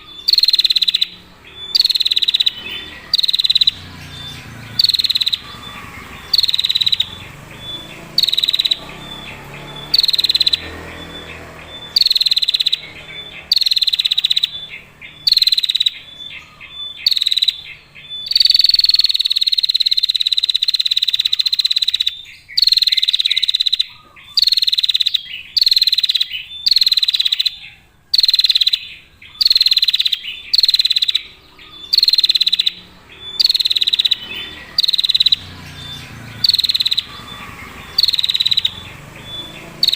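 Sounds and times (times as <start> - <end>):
bird trilling calls: 0.0 - 39.9.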